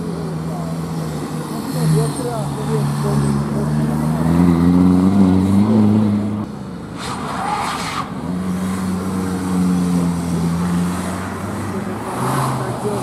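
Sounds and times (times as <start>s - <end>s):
rally car engine revving: 0.1s - 13.0s
car passing at high revs: 0.5s - 13.0s.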